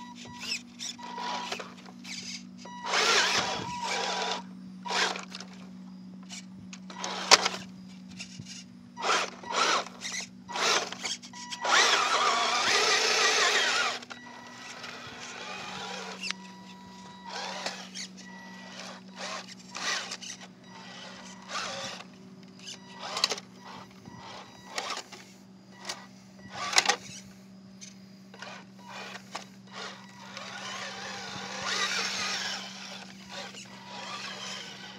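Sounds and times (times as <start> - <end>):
electric motor and gears whining: 0.0 - 34.9.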